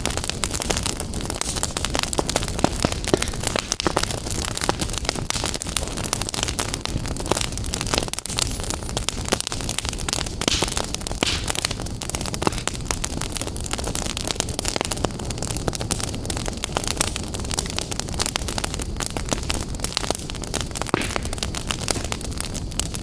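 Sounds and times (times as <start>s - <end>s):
fire hissing: 0.0s - 18.0s, 18.7s - 23.0s
fire crackling and popping: 0.0s - 23.0s.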